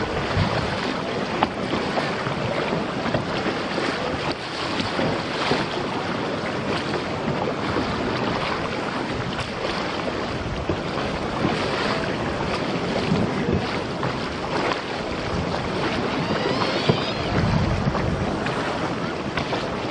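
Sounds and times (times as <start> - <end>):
sea water splashing: 0.0 - 19.9
wind buffeting microphone: 0.0 - 19.9.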